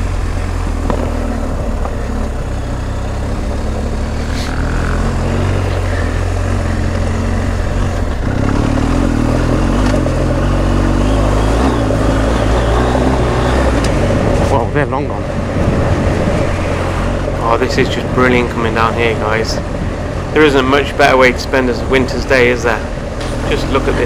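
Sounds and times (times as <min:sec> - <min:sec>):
motorcycle engine at low revs: 0:00.0 - 0:24.0
steady rushing noise: 0:00.0 - 0:24.0.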